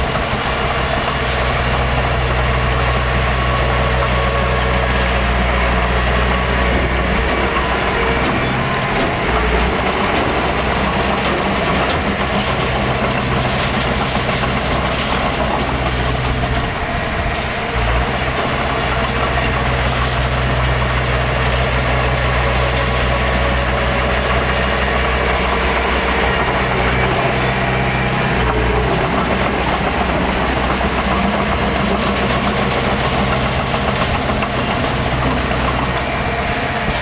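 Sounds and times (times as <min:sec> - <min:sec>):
heavy diesel engine droning: 0:00.0 - 0:37.0.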